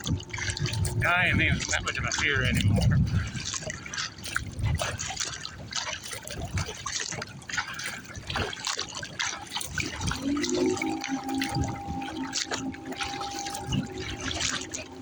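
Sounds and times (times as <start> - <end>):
low water slosh: 0.0 - 15.0
water splashing and dripping: 0.0 - 15.0.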